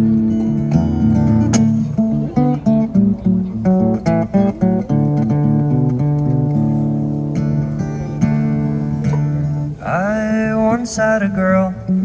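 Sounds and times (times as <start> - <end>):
acoustic guitar picking melody: 0.0 - 12.0.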